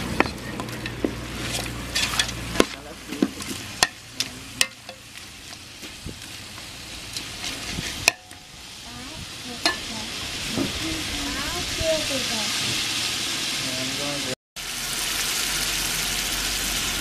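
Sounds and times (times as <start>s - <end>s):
meat sizzling: 0.0s - 17.0s.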